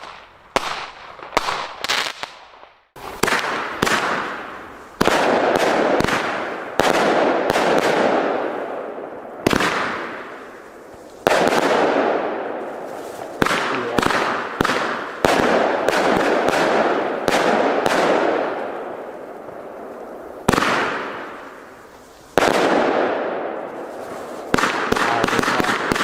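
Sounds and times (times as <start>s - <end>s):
firework bangs and bursts: 0.0s - 26.0s
firework cracks: 0.0s - 26.0s.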